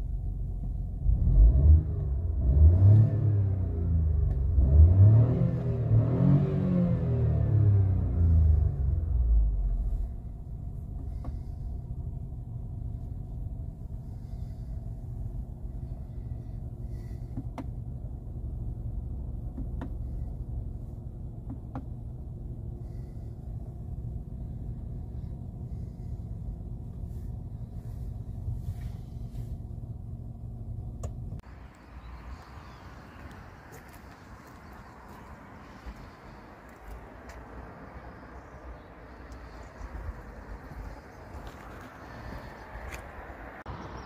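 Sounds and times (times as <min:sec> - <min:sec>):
car engine idling: 0:00.0 - 0:02.4, 0:07.8 - 0:44.0.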